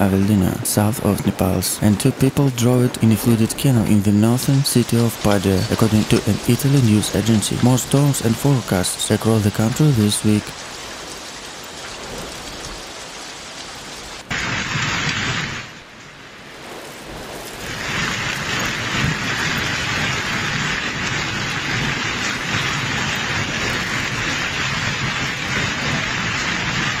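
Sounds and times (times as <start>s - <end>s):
heavy rain and hail: 0.0s - 27.0s.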